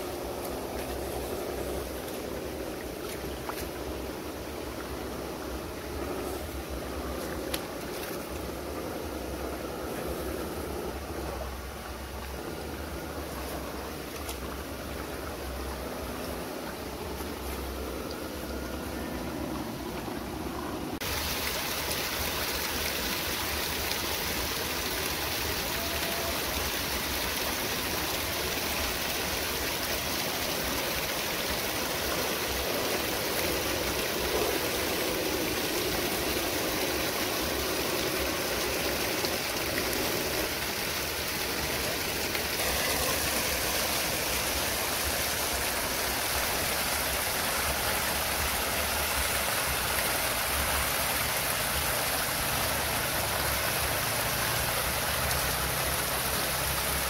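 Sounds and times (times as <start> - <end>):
stream water rushing over rocks: 0.0 - 57.0.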